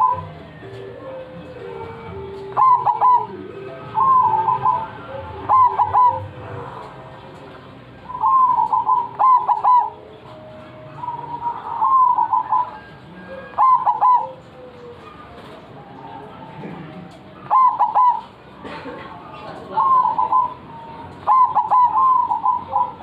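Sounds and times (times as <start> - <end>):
bird singing stuttering phrases: 0.0 - 18.6, 19.3 - 23.0.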